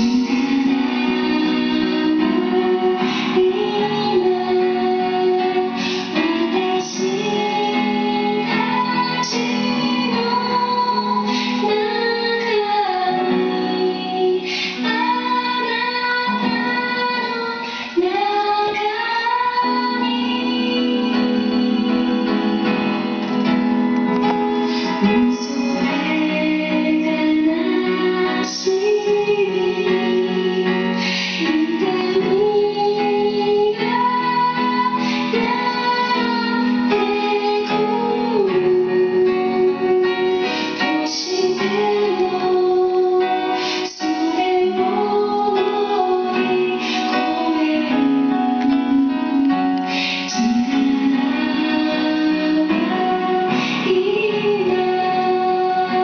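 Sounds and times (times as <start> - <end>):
woman singing: 0.0 - 23.6, 24.2 - 56.0
instrumental accompaniment: 0.0 - 56.0.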